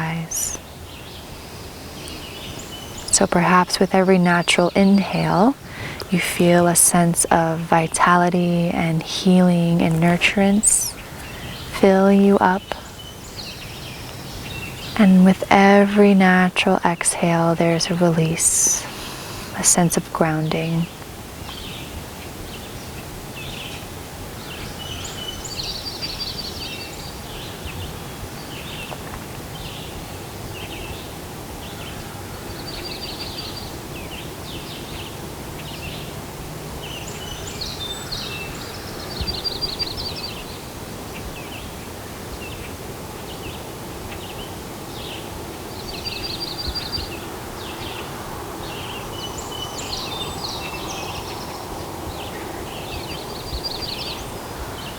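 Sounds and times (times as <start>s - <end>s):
outdoor background hiss: 0.0s - 54.9s
songbirds chirping and trilling: 0.0s - 54.9s.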